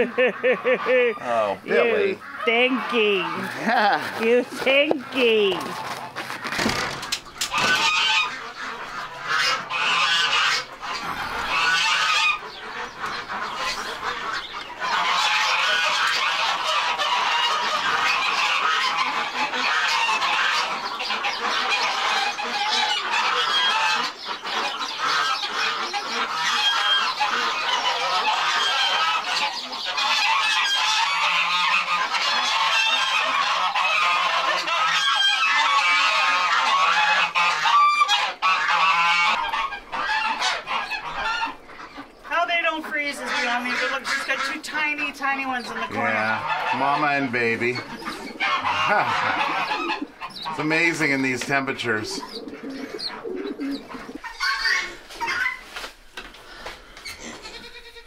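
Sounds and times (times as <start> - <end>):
ducks and geese calling: 0.0 - 58.0.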